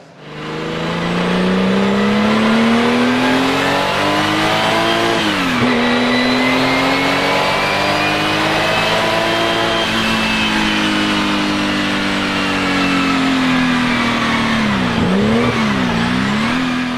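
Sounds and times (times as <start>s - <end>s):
racing engine accelerating: 0.0s - 16.9s.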